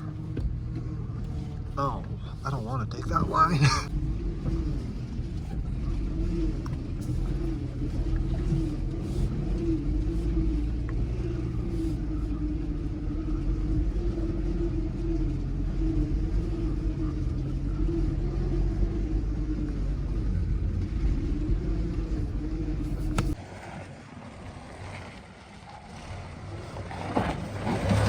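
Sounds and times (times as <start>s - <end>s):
truck engine running at low revs: 0.0s - 28.0s.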